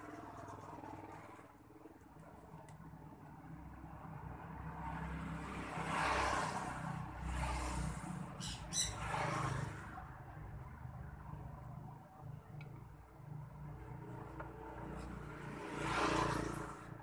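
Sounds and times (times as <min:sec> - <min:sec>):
vehicle passing by: 0:03.4 - 0:17.0.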